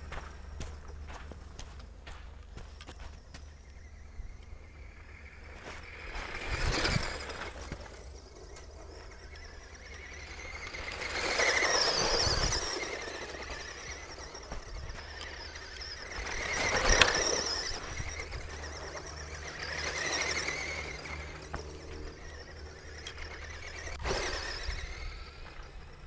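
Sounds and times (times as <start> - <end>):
toy car electric motor whining: 2.5 - 26.0.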